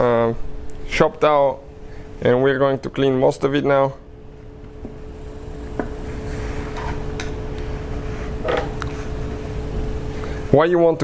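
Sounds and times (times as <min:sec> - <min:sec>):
background hum and rumble: 0:00.0 - 0:11.0.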